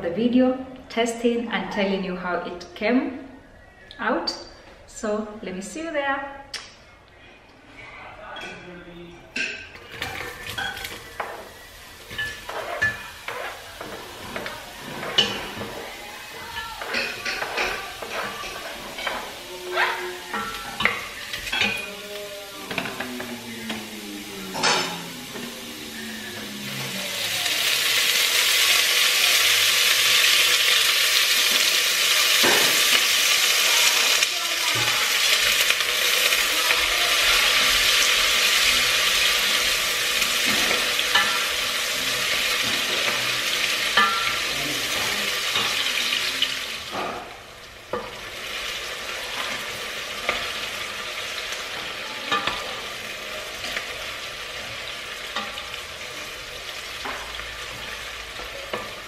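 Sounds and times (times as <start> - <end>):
food sizzling in hot oil: 9.8 - 59.0.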